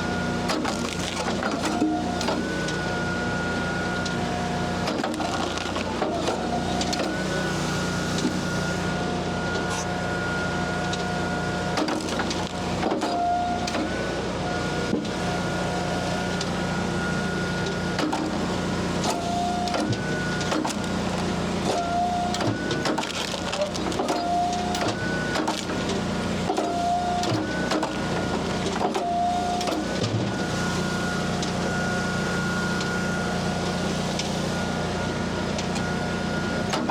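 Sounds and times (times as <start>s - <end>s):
hydraulic log splitter whine: 0.0s - 36.9s.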